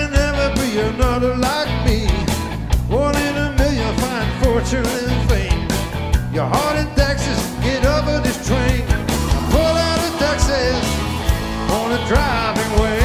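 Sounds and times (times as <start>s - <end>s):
man singing: 0.0s - 5.7s, 6.3s - 13.0s
live blues-rock band: 0.0s - 13.0s.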